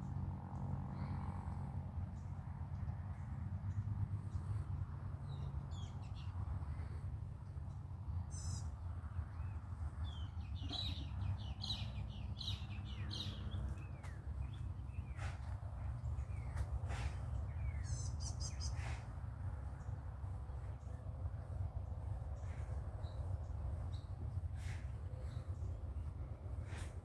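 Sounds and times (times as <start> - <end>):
steady low rumble: 0.0 - 27.0
birds chirping and trilling: 3.7 - 27.0.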